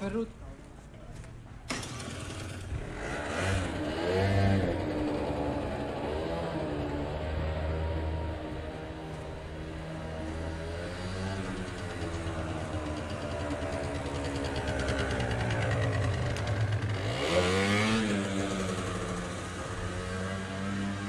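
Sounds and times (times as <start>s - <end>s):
vehicle engine revving: 1.7s - 21.0s.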